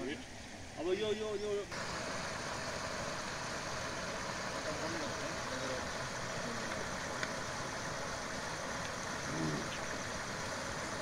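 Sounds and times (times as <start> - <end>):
stream water rushing over weir: 0.0 - 11.0.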